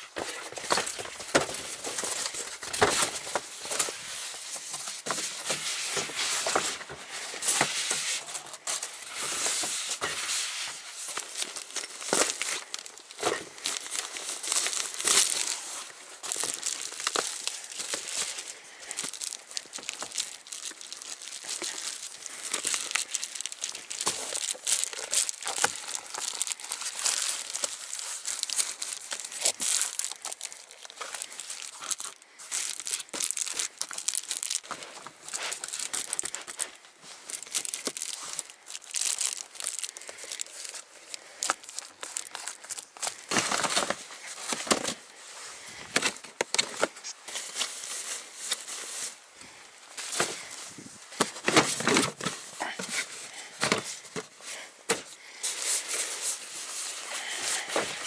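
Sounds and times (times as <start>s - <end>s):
bubble foil crinkling: 0.0s - 58.0s.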